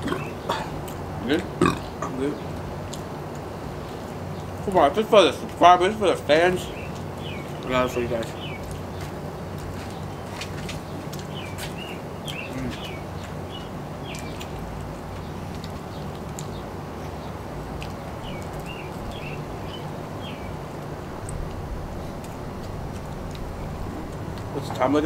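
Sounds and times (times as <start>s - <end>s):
low outdoor rumble: 0.0s - 25.0s
songbird singing: 0.0s - 25.0s.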